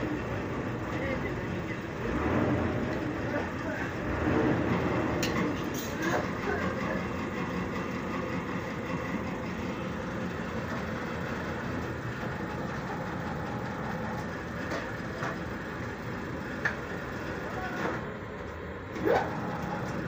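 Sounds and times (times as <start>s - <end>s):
hydraulic press running: 0.0s - 20.0s.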